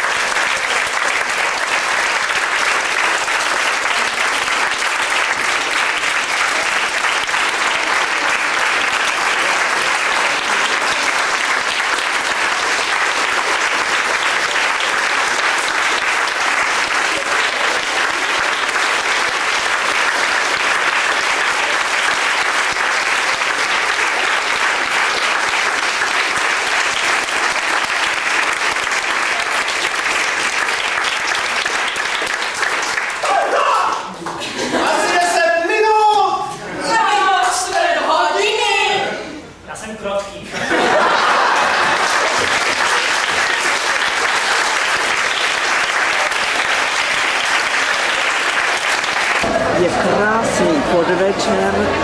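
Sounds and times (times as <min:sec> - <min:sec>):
audience applauding: 0:00.0 - 0:36.2, 0:40.6 - 0:52.0.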